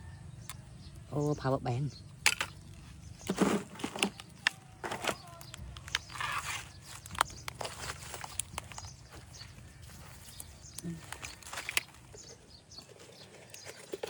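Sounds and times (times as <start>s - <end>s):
crunching and rustling: 2.0s - 14.0s.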